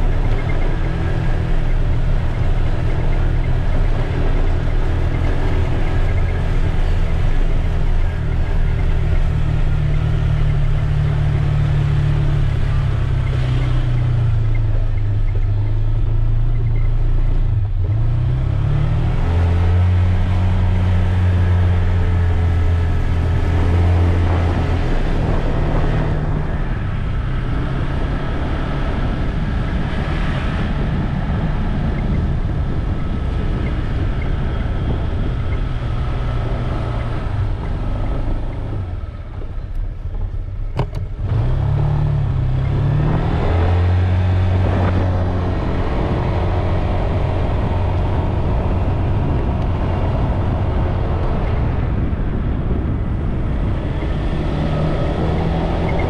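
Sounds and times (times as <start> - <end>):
road noise: 0.0 - 56.0
rushing wind: 0.0 - 56.0.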